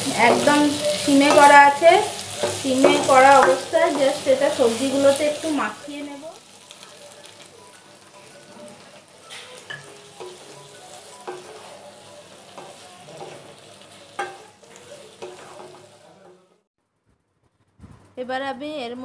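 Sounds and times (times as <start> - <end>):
spatula scraping pan: 0.0 - 6.0, 6.6 - 16.6
vegetables sizzling in pan: 0.0 - 16.7.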